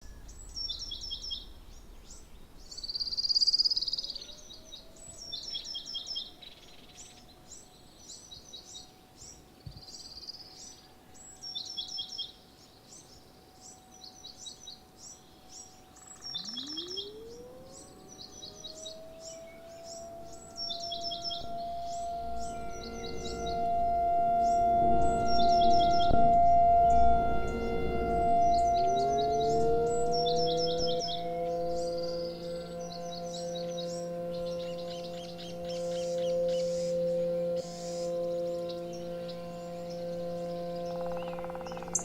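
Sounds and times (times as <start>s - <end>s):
faint steady tone: 0.0s - 42.0s
songbirds singing: 0.0s - 42.0s
rising warning siren: 2.9s - 9.6s, 10.4s - 42.0s.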